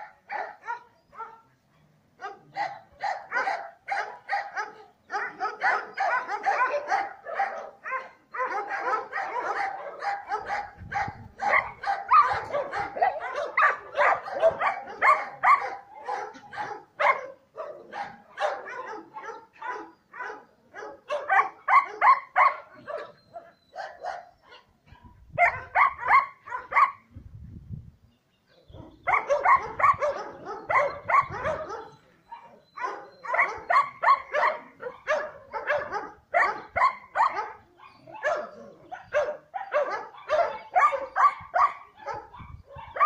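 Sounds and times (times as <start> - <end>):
dogs barking: 0.0 - 1.4, 2.2 - 27.1, 28.7 - 43.0.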